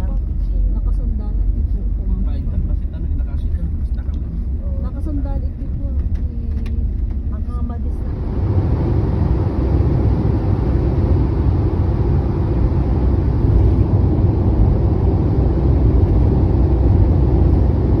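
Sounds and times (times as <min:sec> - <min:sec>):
vehicle road and engine rumble: 0:00.0 - 0:18.0.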